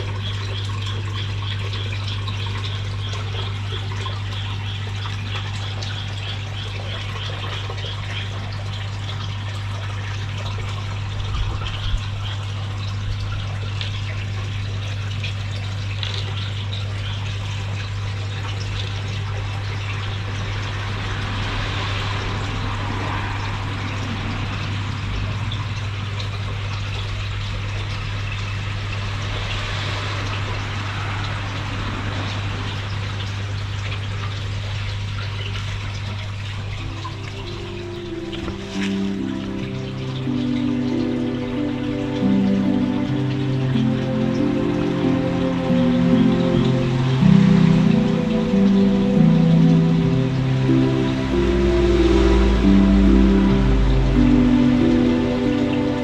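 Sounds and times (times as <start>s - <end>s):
low hum: 0.0s - 56.0s
water trickling and splashing: 0.0s - 56.0s.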